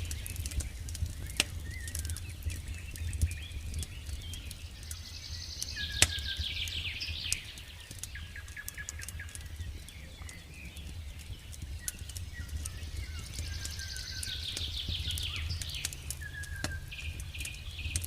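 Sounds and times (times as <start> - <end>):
campfire crackling: 0.0 - 18.0
songbird trilling and chirping: 1.1 - 18.0.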